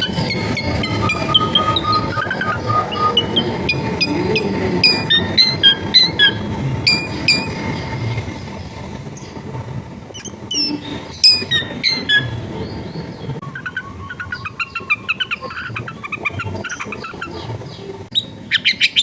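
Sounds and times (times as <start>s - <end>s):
shrike whistled song: 0.0s - 9.5s, 10.1s - 19.0s
low background rumble: 0.0s - 19.0s.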